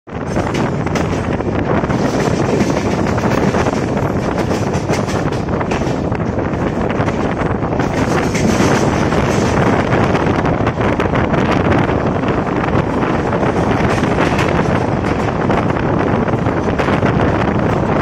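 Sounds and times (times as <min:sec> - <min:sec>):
train wheels rumbling and clattering: 0:00.1 - 0:18.0
wind buffeting microphone: 0:00.1 - 0:18.0.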